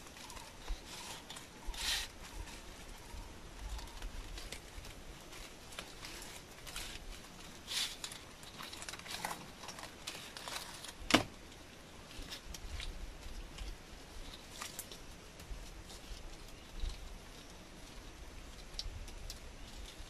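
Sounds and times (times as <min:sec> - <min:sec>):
leaf strips rustling and crackling: 0:00.0 - 0:20.0.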